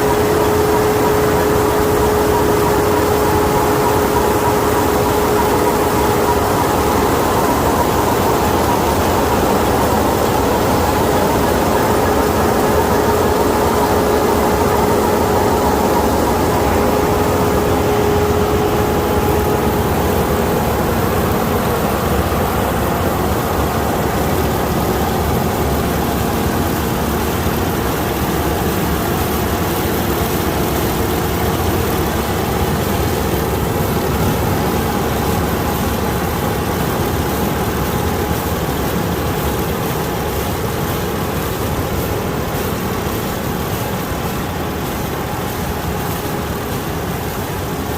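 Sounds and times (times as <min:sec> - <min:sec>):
combine harvester running: 0:00.0 - 0:47.9
steady machine whine: 0:00.0 - 0:47.9.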